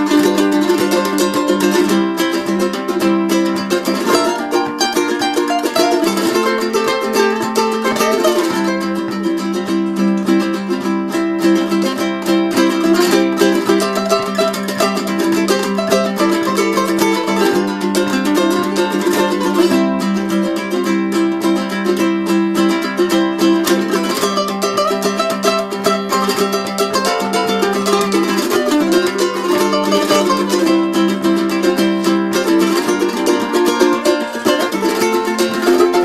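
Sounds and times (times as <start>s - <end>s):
plucked string instrumental music: 0.0s - 36.0s.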